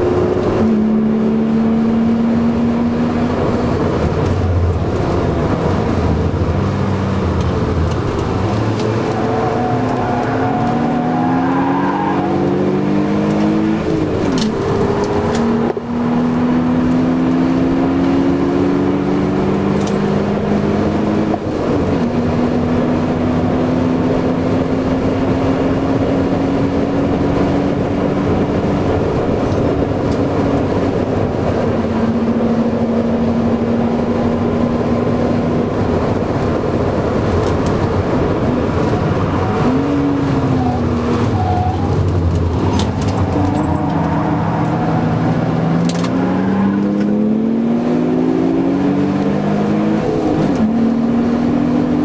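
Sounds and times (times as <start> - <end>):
car engine accelerating: 0.0 - 52.0
wind and road noise: 0.0 - 52.0.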